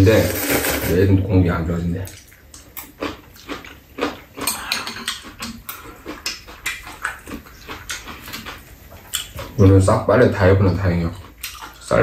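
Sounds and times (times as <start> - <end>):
people chewing noodles: 2.1 - 12.0.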